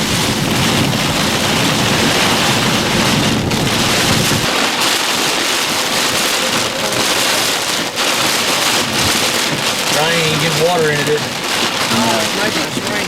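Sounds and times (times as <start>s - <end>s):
heavy rain: 0.0s - 13.0s
low rumble of wind: 0.0s - 13.0s
strong wind: 0.0s - 13.0s.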